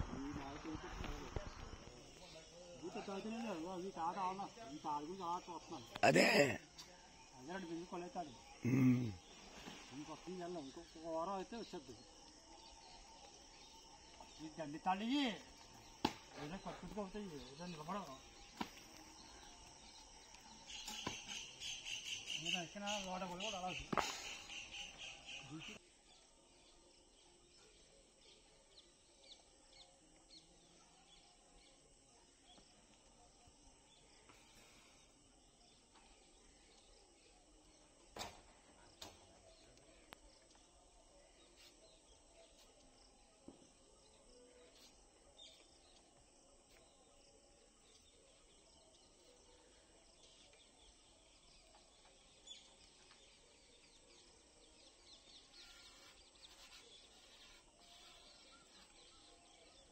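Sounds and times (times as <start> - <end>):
faint bird chirps: 0.0 - 59.9.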